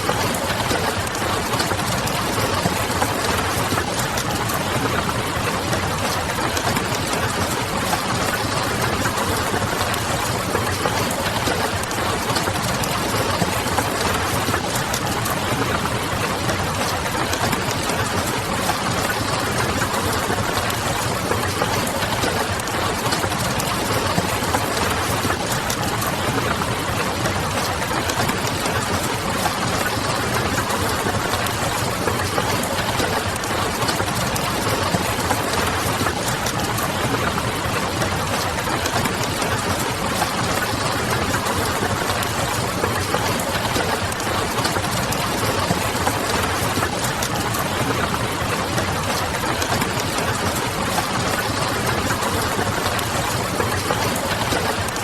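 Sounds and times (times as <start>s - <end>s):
rain pattering on a window: 0.0s - 55.0s.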